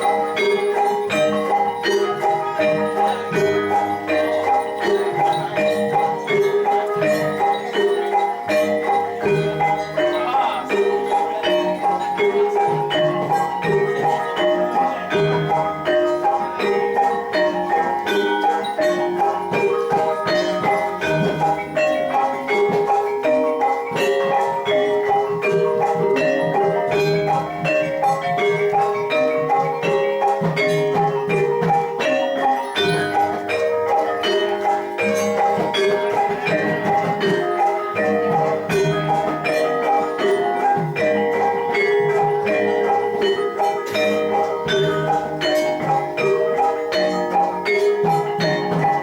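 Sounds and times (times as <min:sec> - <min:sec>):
gamelan metallophones ringing: 0:00.0 - 0:49.0.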